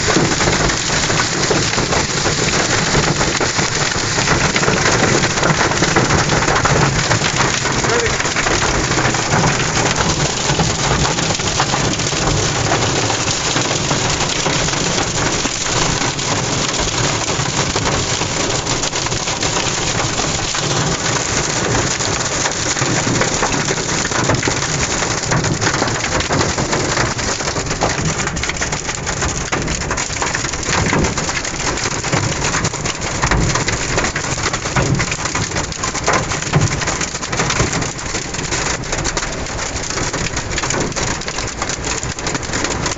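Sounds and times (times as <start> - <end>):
hail and rain on truck roof: 0.0 - 42.9.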